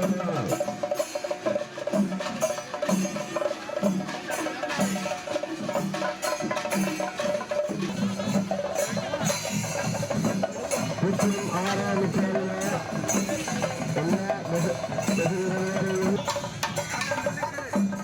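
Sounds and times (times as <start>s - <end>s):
drums and cymbals playing: 0.0s - 18.0s.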